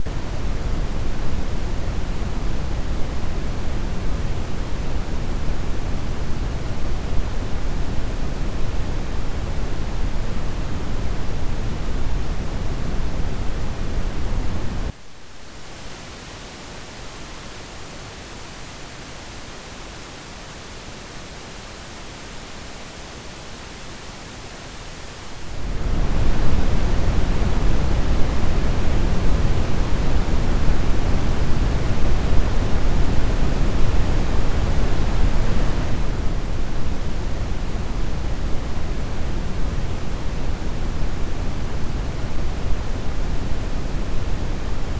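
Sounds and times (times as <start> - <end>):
coloured noise hiss: 0.0 - 44.9.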